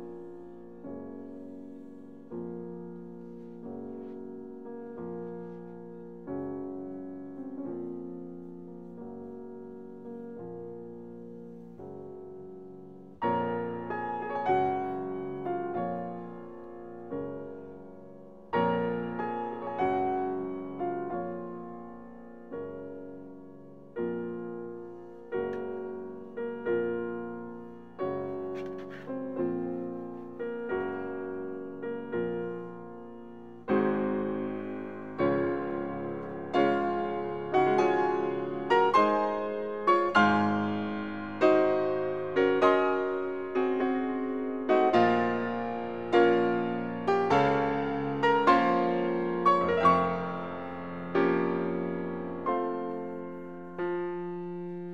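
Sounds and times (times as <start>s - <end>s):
slow solo piano piece: 0.0s - 54.9s.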